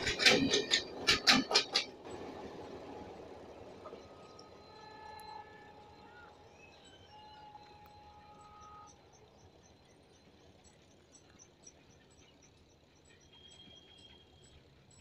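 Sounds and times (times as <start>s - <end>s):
faint steady tone: 2.0s - 15.0s.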